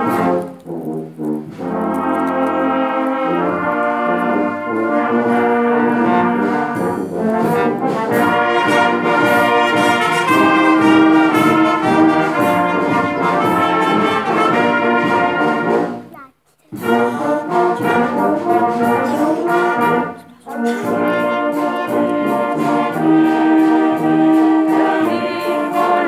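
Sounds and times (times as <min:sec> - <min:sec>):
brass band playing a hymn: 0:00.0 - 0:16.1, 0:16.7 - 0:26.0.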